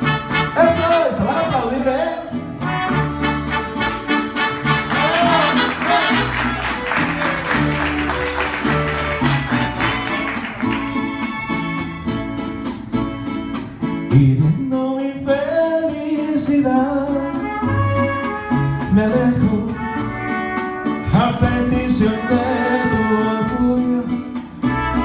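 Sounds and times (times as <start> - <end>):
plucked bass notes: 0.0 - 14.7, 16.4 - 25.0
mariachi band playing: 0.0 - 25.0
strummed guitars: 0.0 - 25.0.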